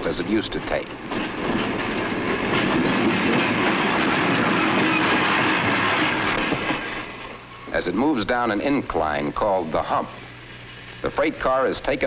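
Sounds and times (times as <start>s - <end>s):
steel wheels rolling on rails: 0.0s - 12.0s.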